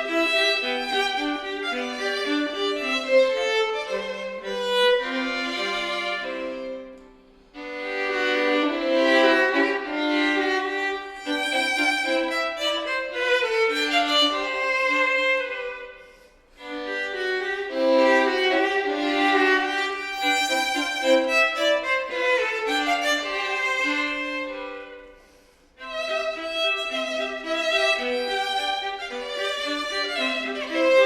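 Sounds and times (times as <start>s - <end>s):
classical string music: 0.0s - 31.0s.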